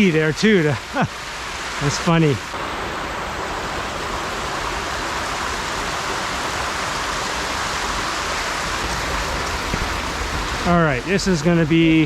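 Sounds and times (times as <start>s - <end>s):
creek water over boulders: 0.0s - 12.0s.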